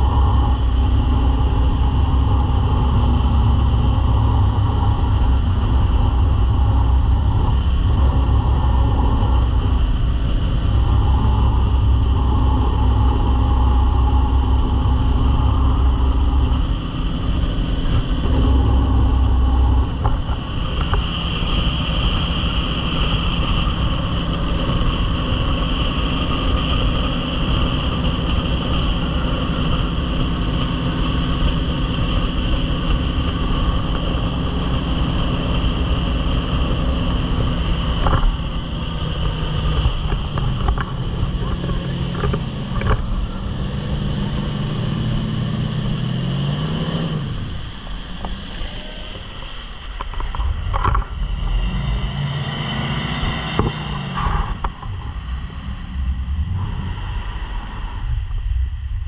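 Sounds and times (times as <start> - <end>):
jet boat engine running: 0.0 - 59.0.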